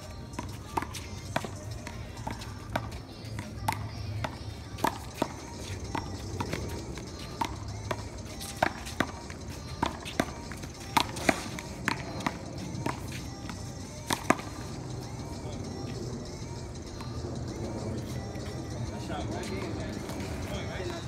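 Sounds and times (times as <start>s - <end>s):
faint music: 0.0s - 21.0s.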